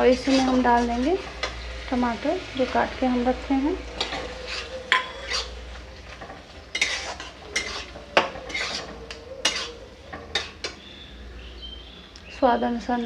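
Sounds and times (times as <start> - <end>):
metal spoon stirring in metal pan: 0.0 - 10.9.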